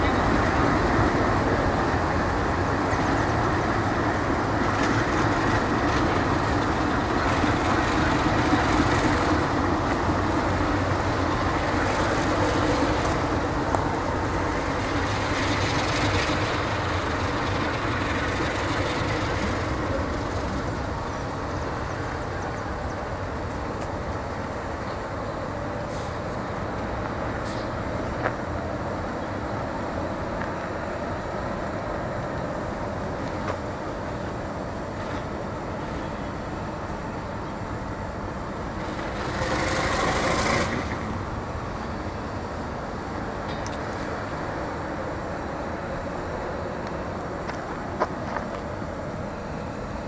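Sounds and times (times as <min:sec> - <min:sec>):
diesel locomotive rumbling: 0:00.0 - 0:50.0.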